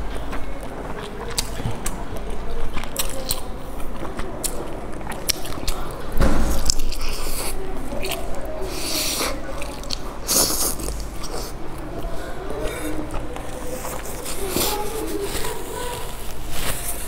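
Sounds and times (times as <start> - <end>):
biting and chewing: 0.0 - 17.0
wet mouth clicks: 0.1 - 16.8.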